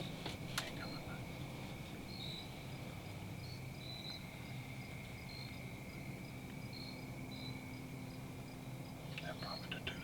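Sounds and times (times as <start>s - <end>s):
insects chirring: 0.0s - 10.0s
low steady hum: 0.0s - 10.0s.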